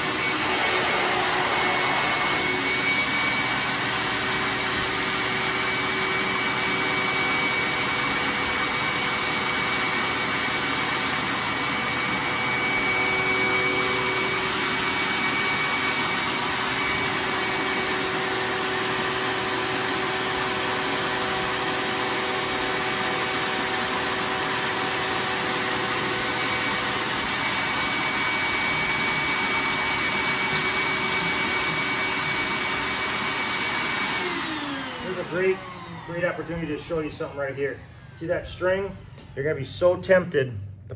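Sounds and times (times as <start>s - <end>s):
electric motor and fan whirring: 0.0s - 40.2s.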